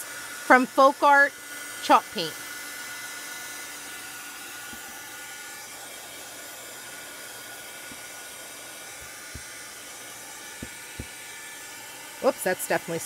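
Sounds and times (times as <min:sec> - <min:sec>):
hot-air dryer blowing: 0:00.0 - 0:13.0.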